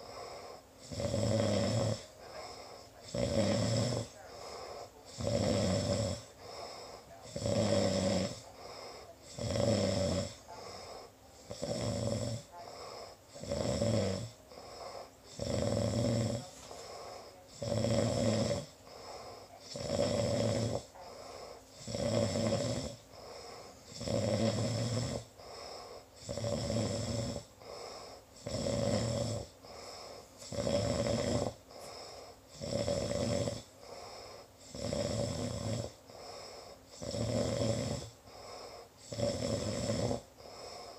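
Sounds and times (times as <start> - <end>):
person snoring: 0.0 - 40.9.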